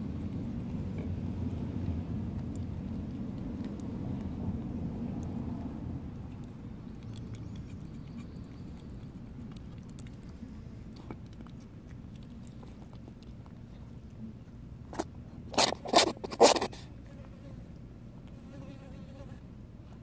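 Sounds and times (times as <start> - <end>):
kitten chewing and licking: 0.0 - 17.0.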